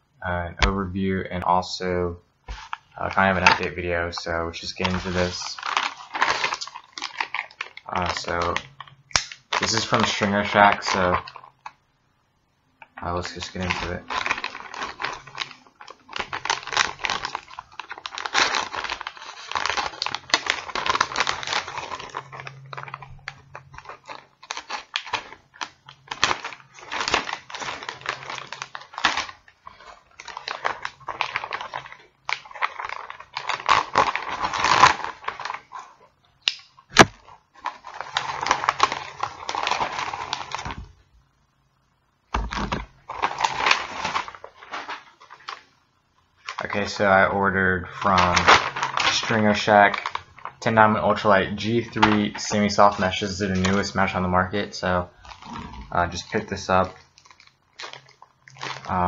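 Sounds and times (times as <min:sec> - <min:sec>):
package rustling and tearing: 0:02.5 - 0:11.8, 0:13.0 - 0:40.9, 0:42.4 - 0:45.7, 0:46.3 - 0:59.0.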